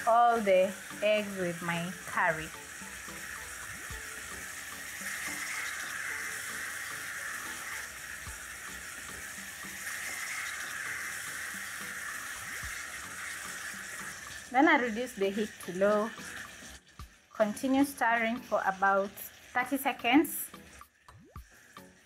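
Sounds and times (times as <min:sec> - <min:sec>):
sauce sizzling in a pan: 0:00.0 - 0:22.0.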